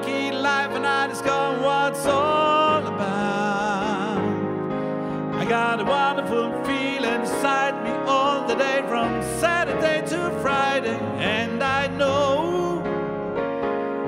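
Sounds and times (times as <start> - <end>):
man singing into a microphone: 0.0 - 13.1
backing music: 0.0 - 14.0.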